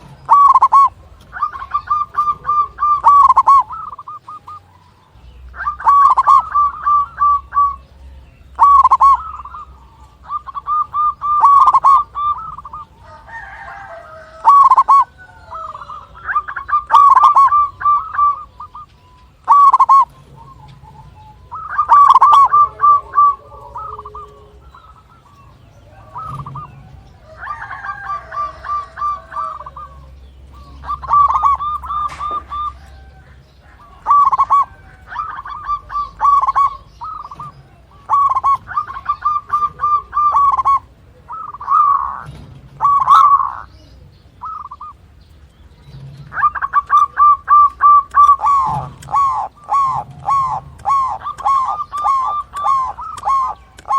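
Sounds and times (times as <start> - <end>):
bird chatter: 0.0 - 53.9
dove cooing: 0.0 - 53.9.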